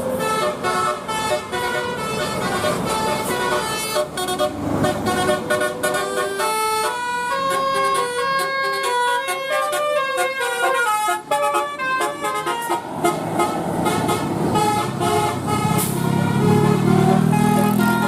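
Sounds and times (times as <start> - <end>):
bus engine and road noise: 0.0 - 18.0
musical bus horn: 0.0 - 18.0.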